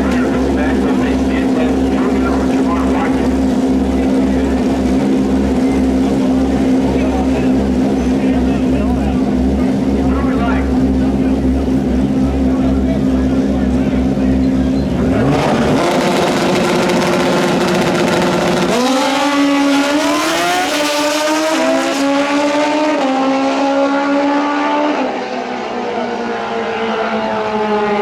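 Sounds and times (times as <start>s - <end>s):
motorcycle engine at full throttle: 0.0s - 28.0s.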